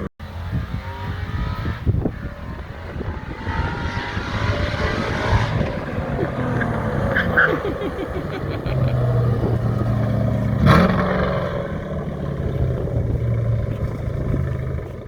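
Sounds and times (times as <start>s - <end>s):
car engine running through exhaust: 0.0s - 15.0s.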